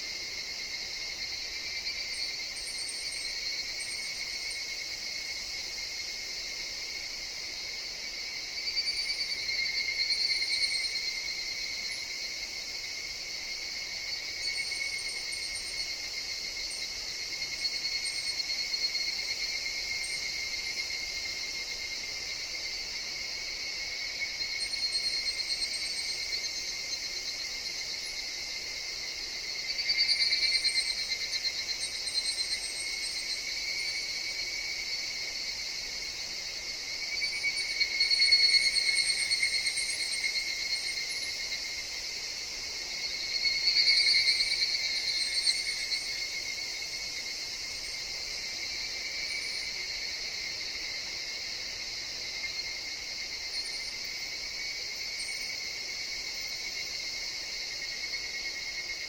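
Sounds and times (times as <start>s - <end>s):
cicadas chorus: 0.0s - 59.0s.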